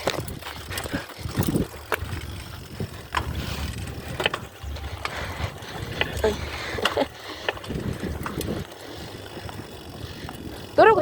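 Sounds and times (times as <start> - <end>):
bicycle rattling over bumps: 0.0 - 11.0
bicycle tyres rumbling on dirt: 0.0 - 11.0
wind on microphone: 0.0 - 11.0.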